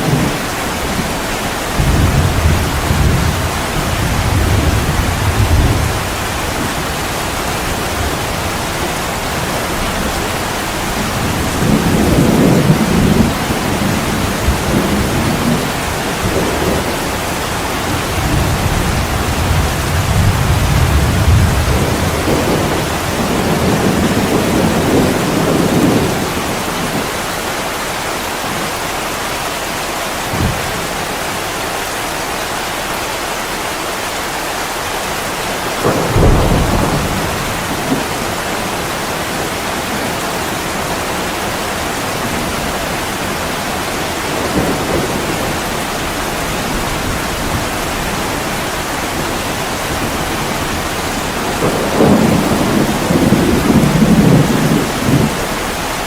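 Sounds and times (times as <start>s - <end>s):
low thunder rolls: 0.0s - 27.3s, 30.2s - 31.3s, 35.4s - 56.0s
heavy rain on a window: 0.0s - 56.0s.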